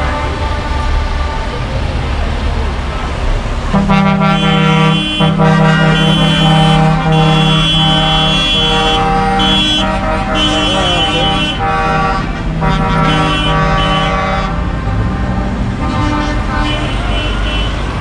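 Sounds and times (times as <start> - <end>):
lorry air horns: 0.0 - 1.8, 3.7 - 18.0
diesel engines driving past: 0.0 - 18.0.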